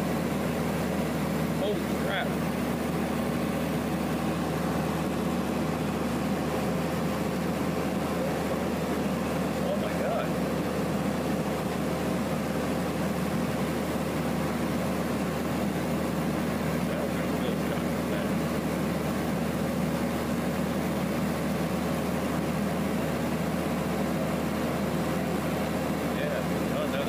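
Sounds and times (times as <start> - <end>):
propeller airplane engine droning: 0.0 - 27.0.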